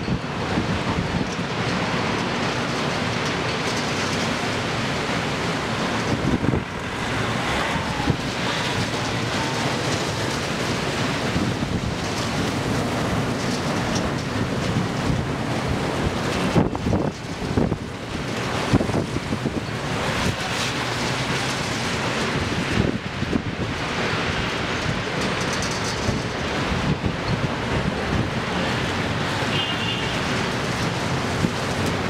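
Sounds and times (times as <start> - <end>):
strong wind on microphone: 0.0 - 2.7, 4.9 - 32.0.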